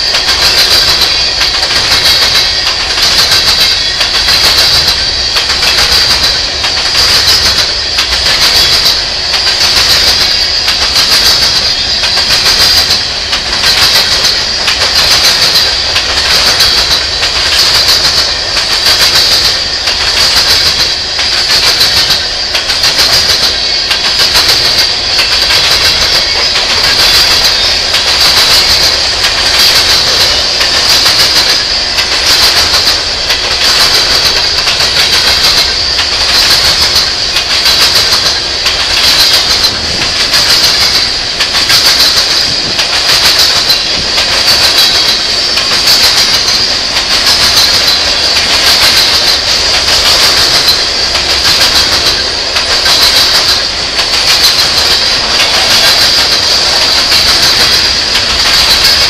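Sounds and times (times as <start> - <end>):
steady high-pitched hiss: 0.0 - 59.0
wheels clacking over rail joints: 0.0 - 59.0.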